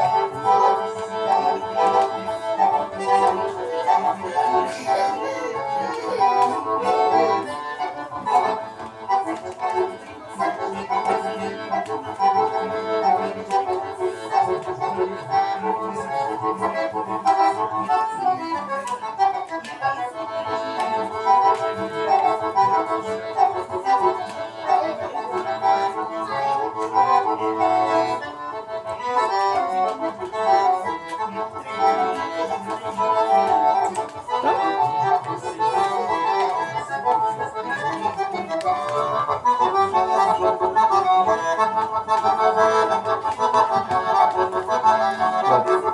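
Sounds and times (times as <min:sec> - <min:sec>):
accordion melody with chords: 0:00.0 - 0:45.9.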